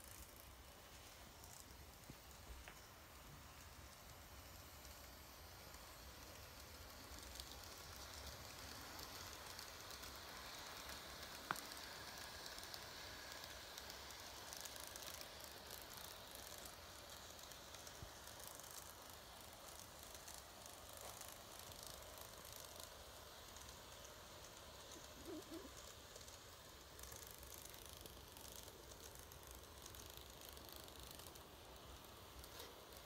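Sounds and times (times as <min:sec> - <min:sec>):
model train whirring and ticking: 0:00.0 - 0:33.0.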